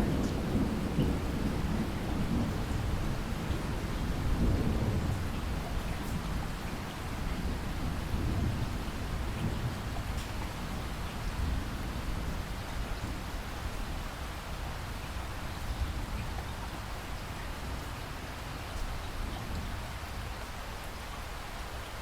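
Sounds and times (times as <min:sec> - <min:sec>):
low rolling thunder: 0:00.0 - 0:20.3
steady rain falling: 0:00.0 - 0:22.0.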